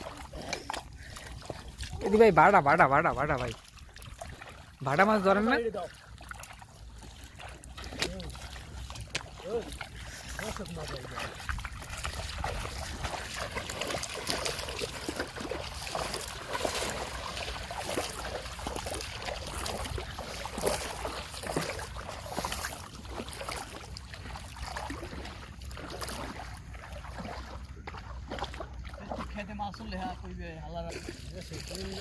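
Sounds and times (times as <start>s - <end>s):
water trickling and splashing: 0.0s - 32.0s.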